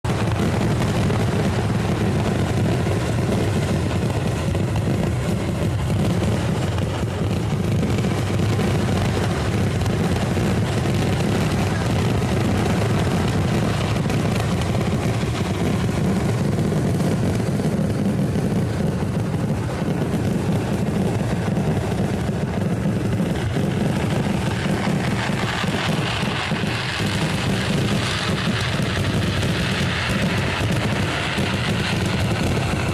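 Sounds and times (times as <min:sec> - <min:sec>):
fireworks barrage rumble: 0:00.0 - 0:32.9.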